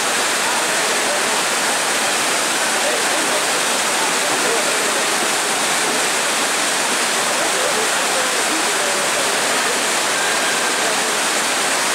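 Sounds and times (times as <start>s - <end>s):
whitewater rapids rushing: 0.0s - 11.9s.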